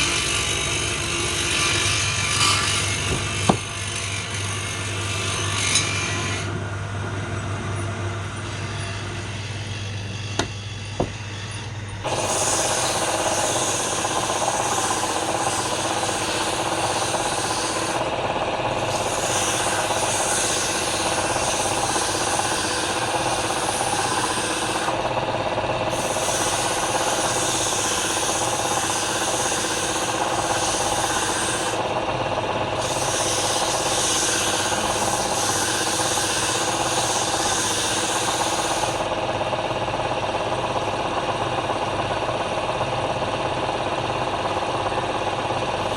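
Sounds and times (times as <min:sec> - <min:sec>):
tool scraping spinning wood: 0:00.0 - 0:06.6, 0:08.4 - 0:45.9
lathe humming: 0:00.0 - 0:45.9.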